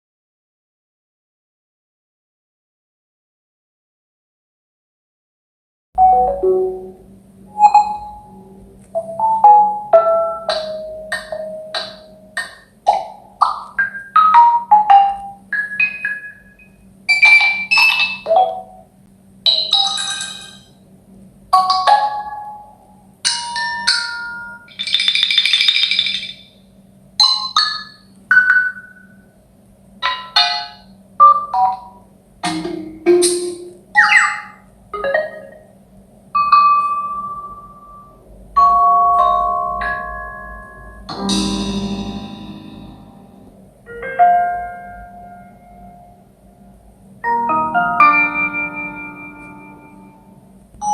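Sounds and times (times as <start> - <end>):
faint low hum: 6.0 - 50.9.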